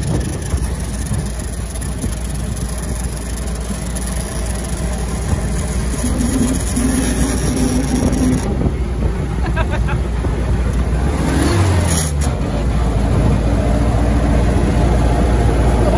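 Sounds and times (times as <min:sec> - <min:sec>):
jeep engine running: 0:00.0 - 0:15.9
road and wind noise: 0:00.0 - 0:15.9.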